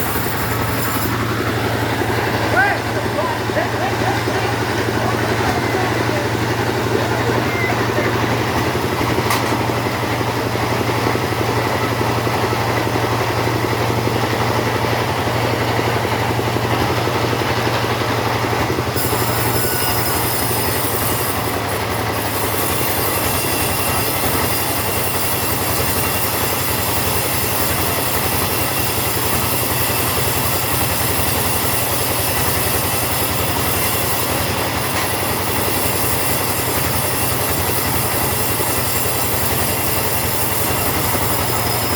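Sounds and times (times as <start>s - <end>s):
chainsaw cutting timber: 0.0s - 41.9s.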